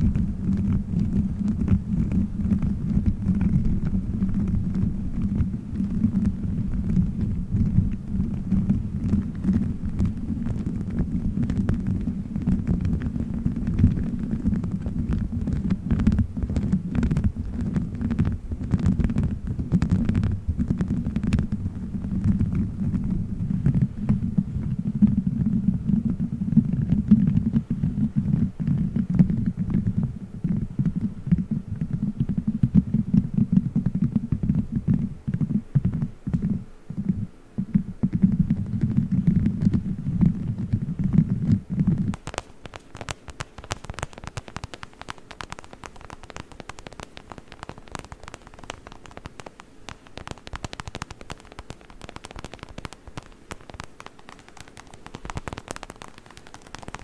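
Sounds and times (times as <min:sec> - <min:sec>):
muffled rubbing on microphone: 0:00.0 - 0:57.0
tapping and scratching on microphone: 0:00.0 - 0:57.0.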